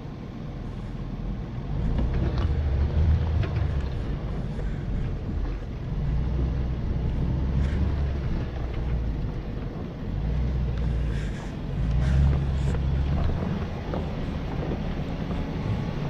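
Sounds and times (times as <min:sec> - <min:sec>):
suv engine rumbling: 0:00.0 - 0:16.0.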